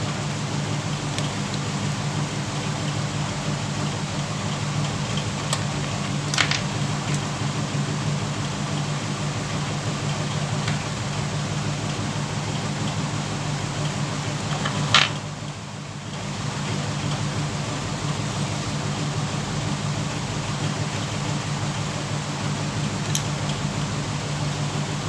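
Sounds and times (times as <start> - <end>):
fan motor humming: 0.0 - 25.0.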